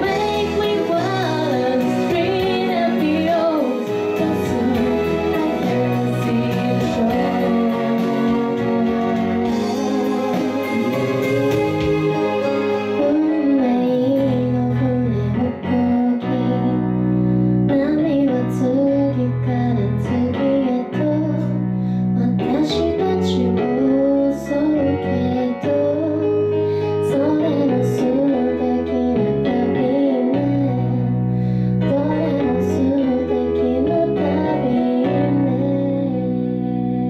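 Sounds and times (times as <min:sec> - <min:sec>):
woman singing into a microphone: 0:00.0 - 0:11.3, 0:12.8 - 0:37.0
instrumental accompaniment: 0:00.0 - 0:37.0.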